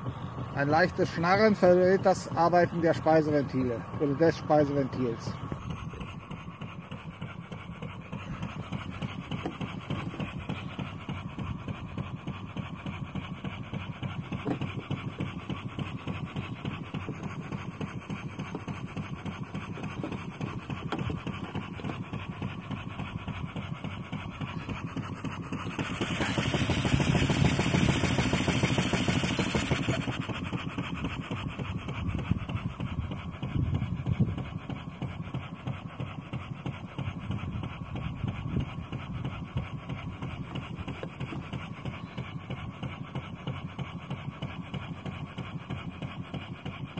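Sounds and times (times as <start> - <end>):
steam engine chuffing: 0.0 - 46.9.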